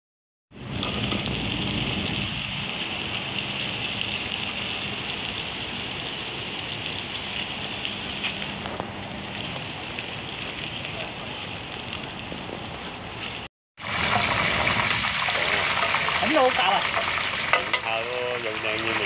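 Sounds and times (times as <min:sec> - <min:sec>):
food frying in hot oil: 0:00.5 - 0:19.0.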